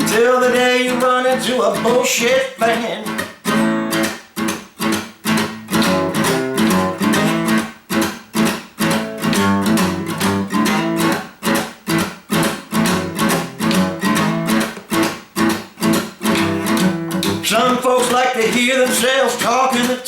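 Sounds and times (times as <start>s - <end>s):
acoustic guitar strumming blues: 0.0s - 20.0s.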